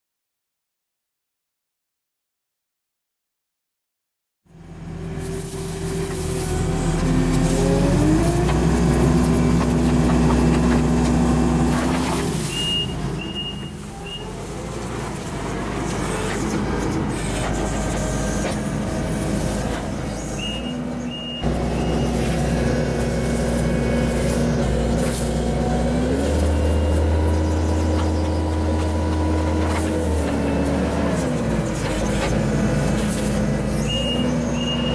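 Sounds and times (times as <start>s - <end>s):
skid steer engine running: 4.5s - 34.9s.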